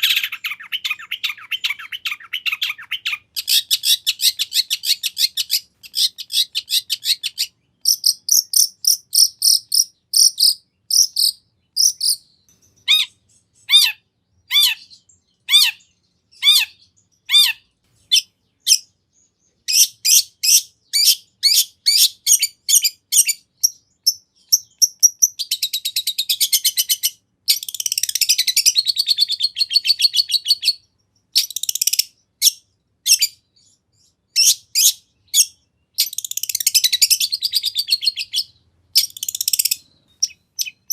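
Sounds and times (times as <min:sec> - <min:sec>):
fast bird chattering: 0:00.0 - 0:14.9, 0:19.7 - 0:33.4, 0:34.4 - 0:40.9
bird singing varied song: 0:00.0 - 0:40.9
sharp high bird chirps: 0:00.0 - 0:40.9.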